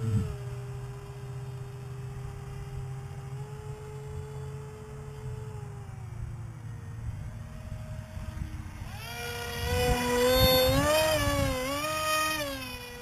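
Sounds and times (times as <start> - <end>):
model jet motor whining: 0.0 - 13.0.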